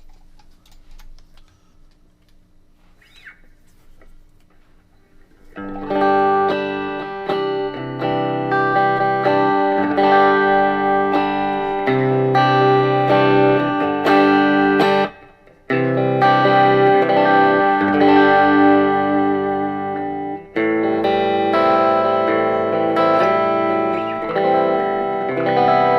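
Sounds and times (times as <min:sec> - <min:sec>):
electric guitar: 0:04.0 - 0:25.9.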